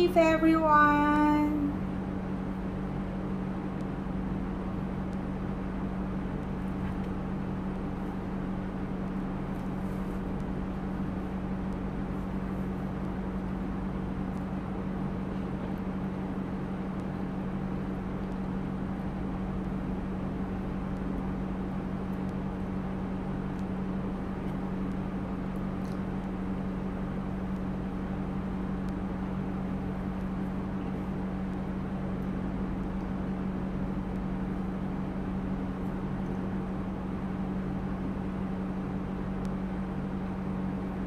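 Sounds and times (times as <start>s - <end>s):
machine hum: 0.0s - 41.0s.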